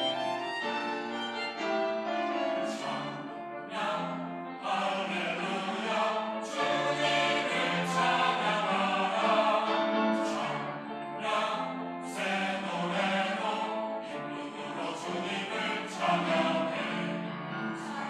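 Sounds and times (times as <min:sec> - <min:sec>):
church choir singing: 0:00.0 - 0:18.0.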